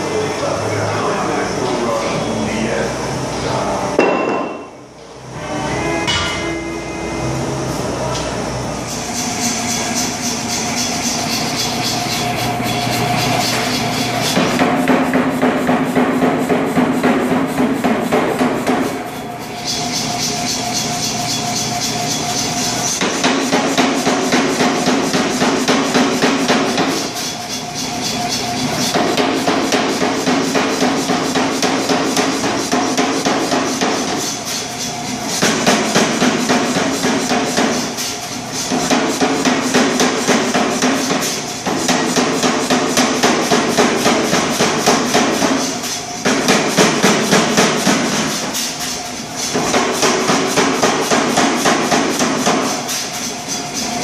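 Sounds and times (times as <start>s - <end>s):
air hammer pounding hot steel: 8.9s - 54.0s.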